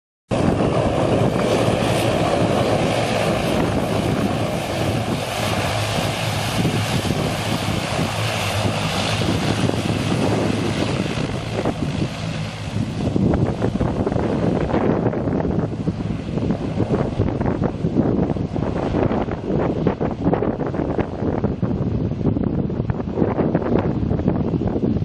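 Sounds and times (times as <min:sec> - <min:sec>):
turboprop propeller drone: 0:00.3 - 0:25.0.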